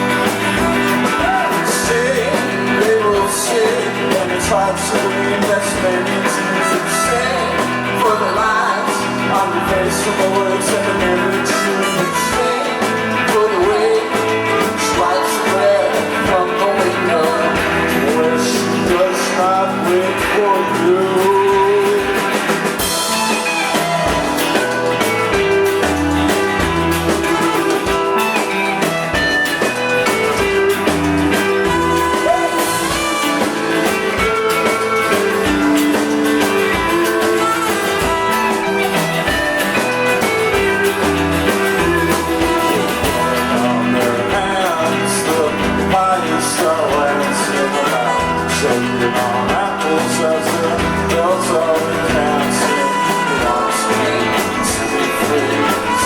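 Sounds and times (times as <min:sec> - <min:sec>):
drums: 0:00.0 - 0:56.0
electric guitar: 0:00.0 - 0:56.0
person singing: 0:00.0 - 0:56.0.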